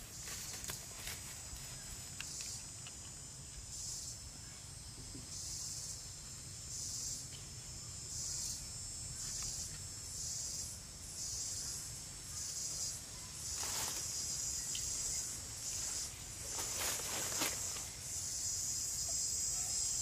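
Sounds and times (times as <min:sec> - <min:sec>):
insects buzzing chorus: 0:00.0 - 0:20.0.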